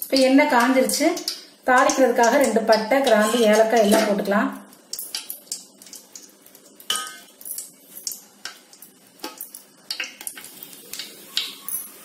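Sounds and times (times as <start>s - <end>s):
spices crackling in hot oil: 0.0s - 12.0s.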